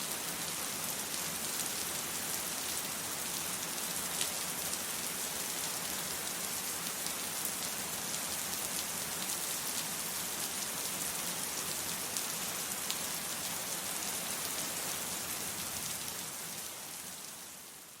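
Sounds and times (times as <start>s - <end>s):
steady rainfall hiss: 0.0s - 18.0s.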